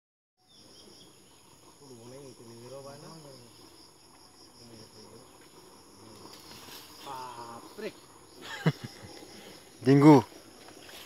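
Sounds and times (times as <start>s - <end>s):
high-pitched insect chorus: 0.4s - 11.0s.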